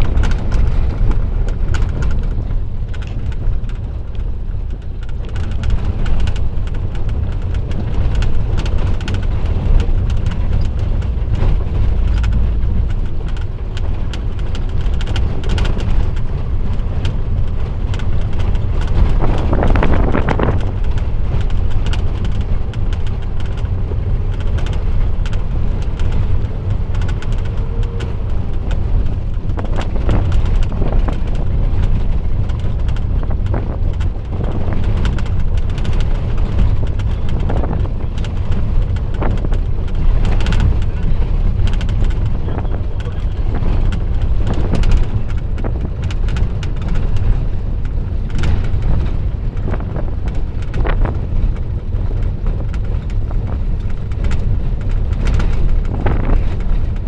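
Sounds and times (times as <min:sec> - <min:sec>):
engine and tyres rumbling: 0:00.0 - 0:57.0
van body knocking and rattling: 0:00.0 - 0:57.0.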